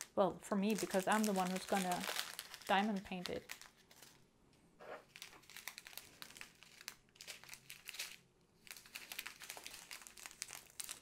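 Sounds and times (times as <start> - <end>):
plastic bags crinkling: 0.0 - 4.2, 5.0 - 11.0.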